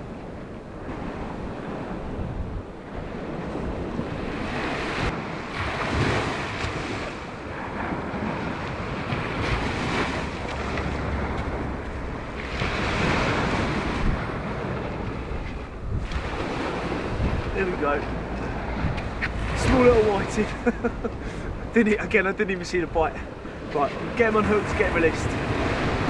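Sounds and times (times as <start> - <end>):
waves breaking on beach: 0.0 - 26.0
wind buffeting microphone: 0.0 - 26.0.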